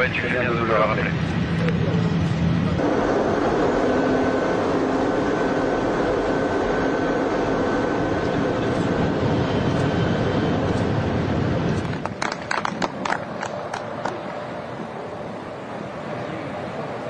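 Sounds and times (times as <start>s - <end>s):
train rushing at high speed: 0.0s - 17.0s.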